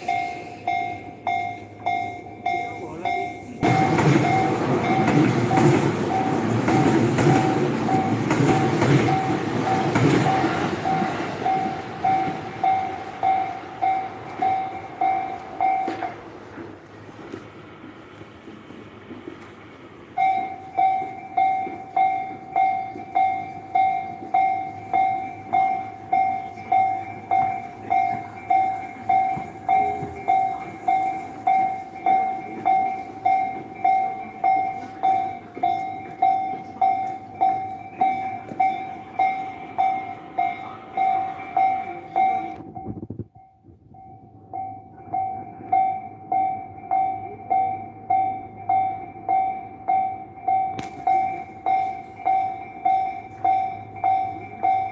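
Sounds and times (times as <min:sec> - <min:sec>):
level-crossing warning bell: 0:00.0 - 0:54.9.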